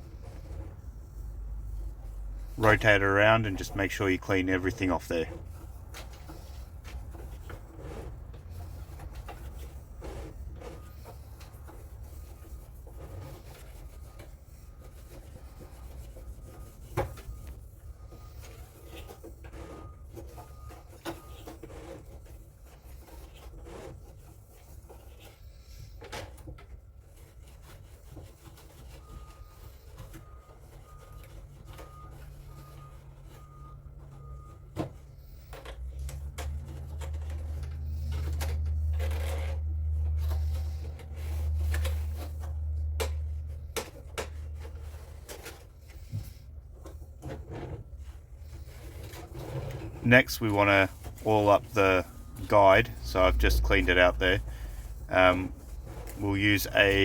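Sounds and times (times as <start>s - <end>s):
cloth rubbing on printer roller: 0.0s - 26.2s, 35.1s - 57.0s.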